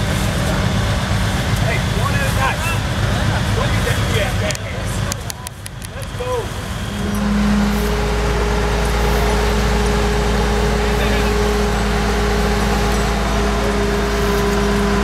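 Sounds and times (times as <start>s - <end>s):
crane engine rumbling: 0.0s - 15.0s.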